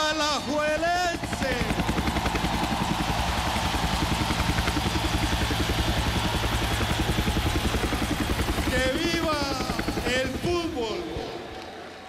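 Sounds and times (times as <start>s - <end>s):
helicopter rotor beating: 0.0s - 11.5s.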